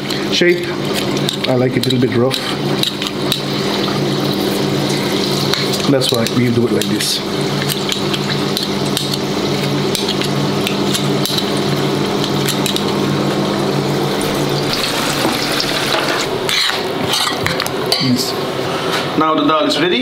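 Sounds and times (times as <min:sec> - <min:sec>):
food deep-frying in bubbling oil: 0:00.0 - 0:17.9.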